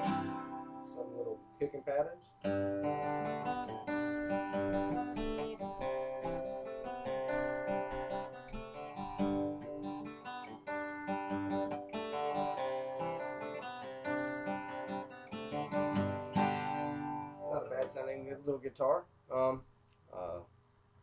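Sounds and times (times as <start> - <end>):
acoustic guitar strummed: 0.0 - 18.6.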